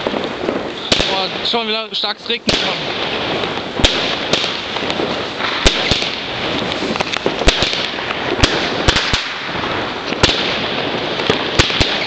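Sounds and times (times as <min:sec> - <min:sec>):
firework crackling: 0:00.0 - 0:12.0
loud sharp firework cracks: 0:00.0 - 0:12.0.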